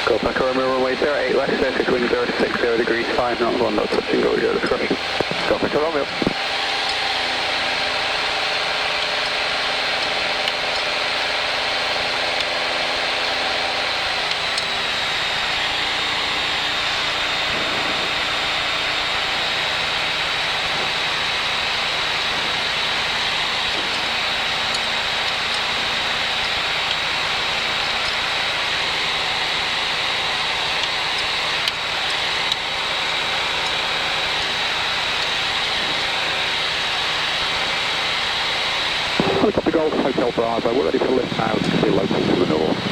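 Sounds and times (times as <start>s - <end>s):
aircraft piston engine running: 0.0s - 42.9s
steady high whine: 0.0s - 42.9s.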